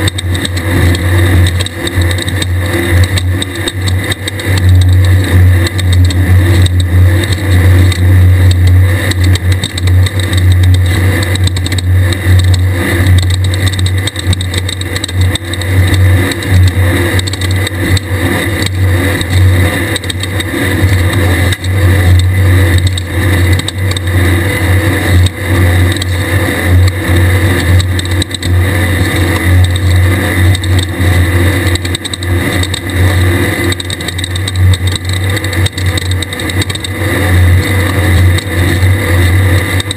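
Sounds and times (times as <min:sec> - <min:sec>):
buggy engine running hard: 0:00.0 - 0:39.9
chassis rattling and knocking: 0:00.0 - 0:39.9.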